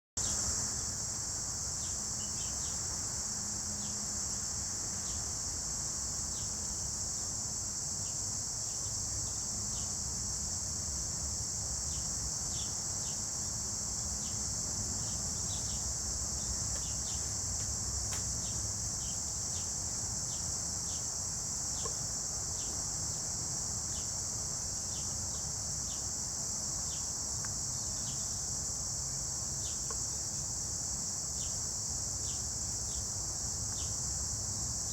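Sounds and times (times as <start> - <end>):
crickets chorus: 0.2 - 34.9.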